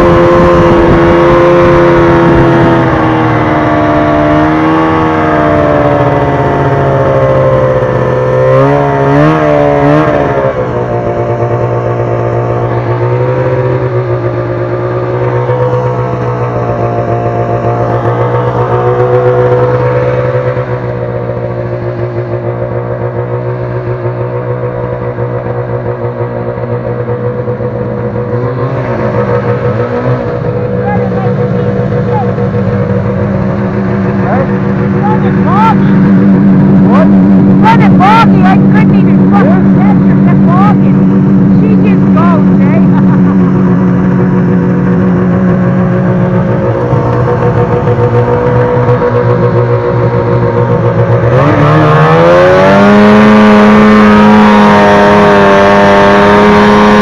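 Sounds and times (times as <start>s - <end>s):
second snowmobile approaching: 0.0s - 57.0s
snowmobile engine running: 0.0s - 57.0s.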